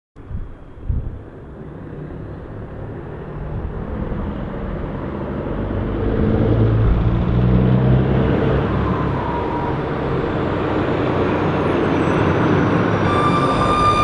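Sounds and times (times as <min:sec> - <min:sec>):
diesel truck engine pulling away: 0:01.4 - 0:14.0.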